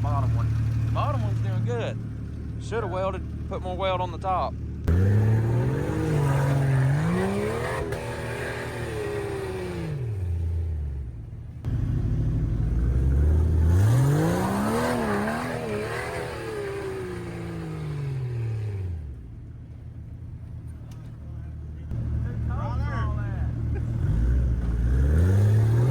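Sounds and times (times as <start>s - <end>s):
engine revving under load: 0.0s - 19.4s, 21.9s - 25.9s.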